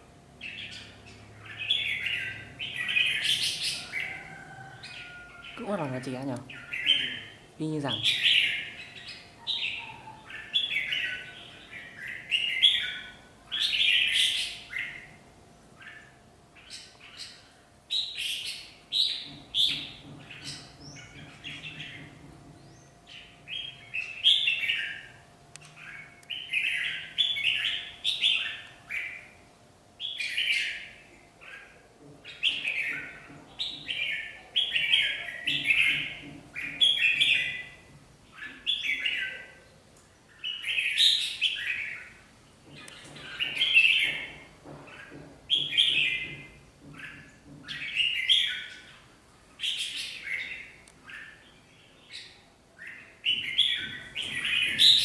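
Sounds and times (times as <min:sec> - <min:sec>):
bulbuls singing and calling: 0:00.3 - 0:29.4, 0:30.0 - 0:55.0.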